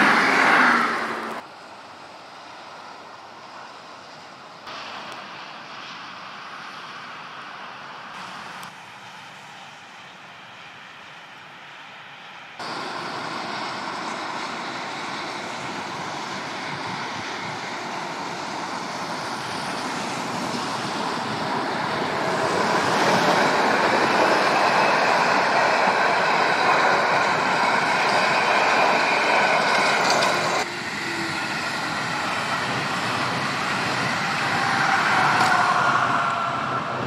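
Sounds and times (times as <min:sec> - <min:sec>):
freeway traffic: 0:00.0 - 0:37.0
freight train rail noise: 0:00.0 - 0:37.0.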